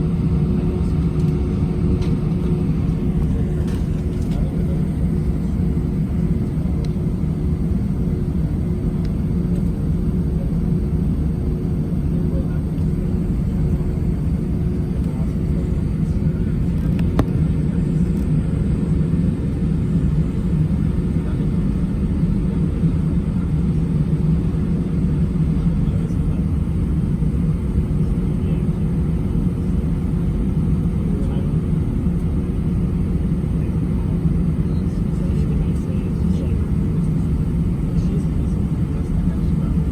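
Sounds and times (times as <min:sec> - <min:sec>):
jet engine and airflow drone: 0:00.0 - 0:39.9.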